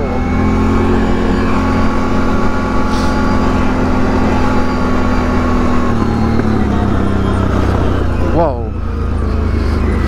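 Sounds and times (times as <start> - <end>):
atv engine running: 0.0 - 10.0.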